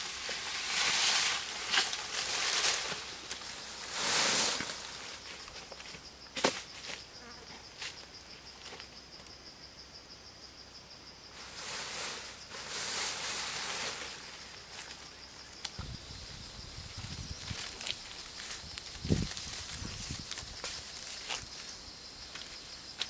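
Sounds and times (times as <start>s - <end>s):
leafy branches rustling: 0.0s - 7.0s, 11.4s - 23.0s.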